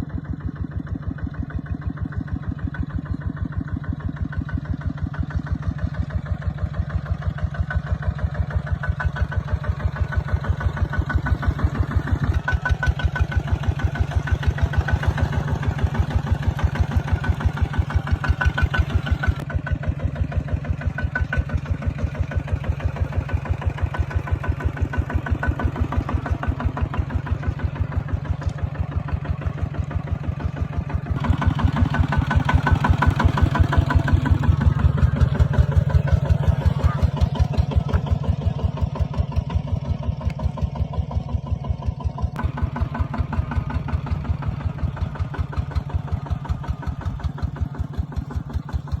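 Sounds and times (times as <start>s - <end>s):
diesel engine chugging: 0.0s - 49.0s.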